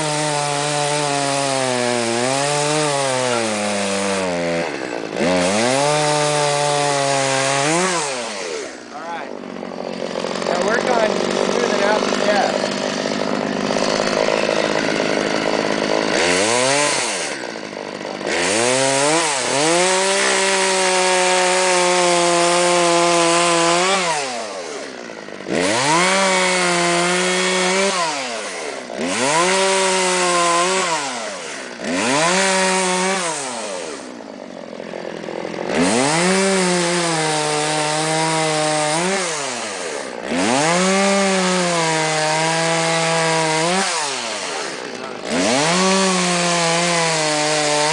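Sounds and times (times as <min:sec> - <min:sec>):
chainsaw revving cutting wood: 0:00.0 - 0:47.9.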